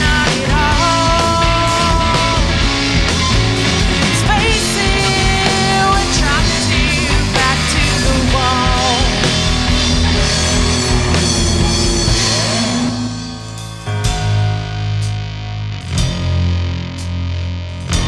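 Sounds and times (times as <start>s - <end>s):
high lead guitar notes: 0.0s - 18.0s
live rock band playing: 0.0s - 18.0s.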